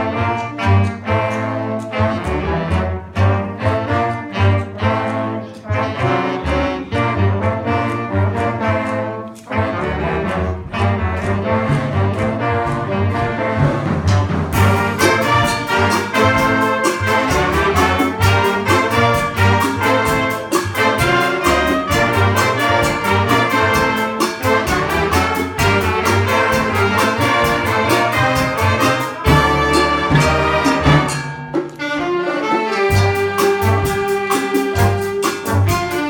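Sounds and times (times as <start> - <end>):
percussion strikes: 0.0 - 36.0
trumpets and trombones: 0.0 - 36.0.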